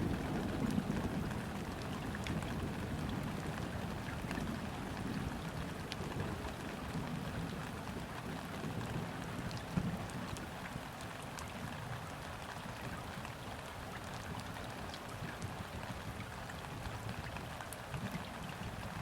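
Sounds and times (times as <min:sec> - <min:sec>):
rain falling on water: 0:00.0 - 0:19.0.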